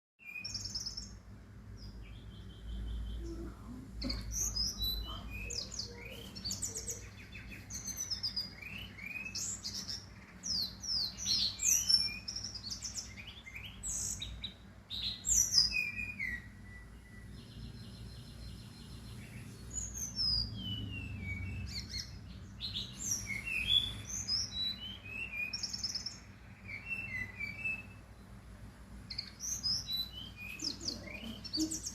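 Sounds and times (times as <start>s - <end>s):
songbird singing: 0.2s - 31.9s.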